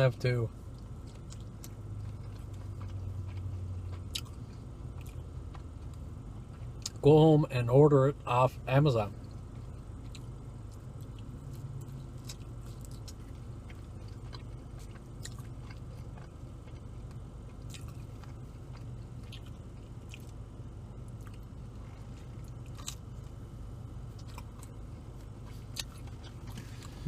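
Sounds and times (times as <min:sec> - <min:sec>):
steady low hum: 0:00.0 - 0:27.0
close chewing and biting: 0:00.7 - 0:07.0, 0:09.1 - 0:20.4, 0:21.0 - 0:23.4, 0:24.0 - 0:27.0.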